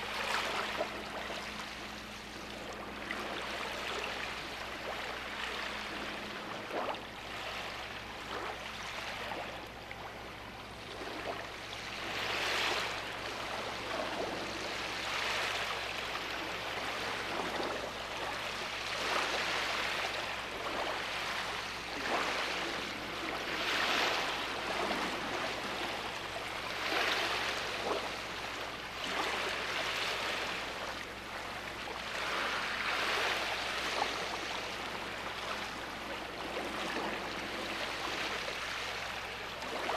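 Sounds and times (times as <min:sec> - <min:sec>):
sea waves breaking on beach: 0:00.0 - 0:09.7, 0:10.8 - 0:39.9.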